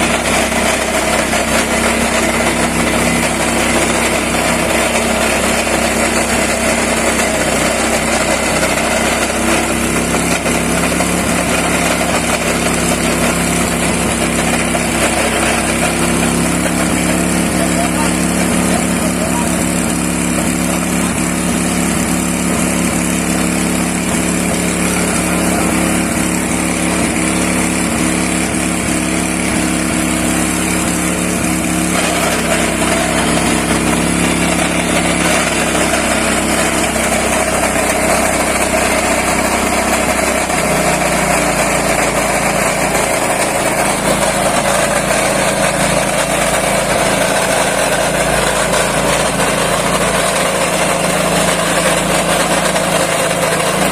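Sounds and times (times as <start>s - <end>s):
coffee hulling machine running: 0.0s - 53.9s.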